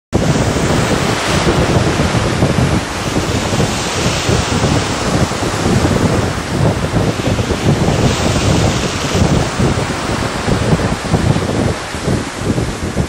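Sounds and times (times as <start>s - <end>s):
small waves breaking on beach: 0.2s - 13.0s
wind buffeting microphone: 0.2s - 13.0s.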